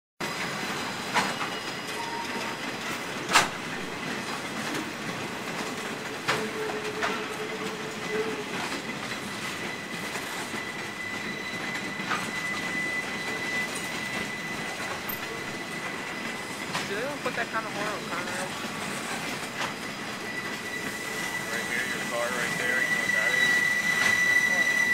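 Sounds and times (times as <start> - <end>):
high wheel squeal: 0.2 - 3.1, 5.6 - 24.9
steel wheels rumbling on rail: 0.2 - 24.9.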